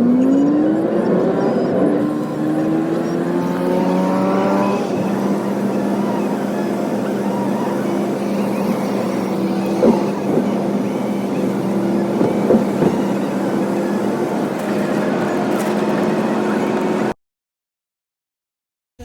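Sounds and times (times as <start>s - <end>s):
vehicle engine humming: 0.0s - 17.1s.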